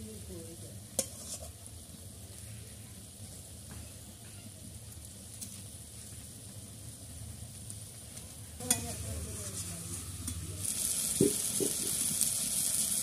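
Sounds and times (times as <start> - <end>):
fish curry sizzling: 0.0 - 13.0.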